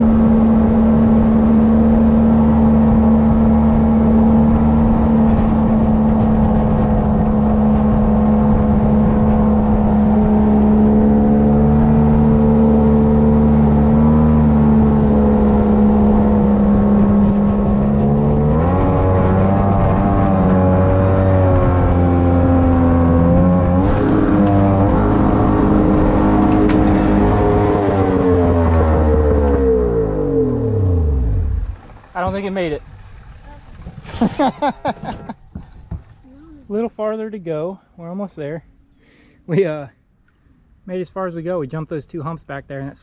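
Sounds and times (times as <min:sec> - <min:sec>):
boat engine running: 0:00.0 - 0:37.3.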